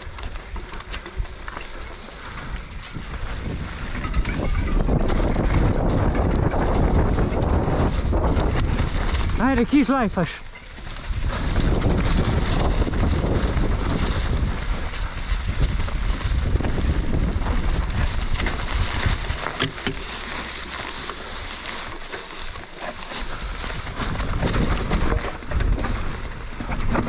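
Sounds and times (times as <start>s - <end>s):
bike knocking and rattling: 0.0s - 27.0s
bike tyre noise on dirt: 0.0s - 27.0s
wind buffeting microphone: 0.0s - 27.0s.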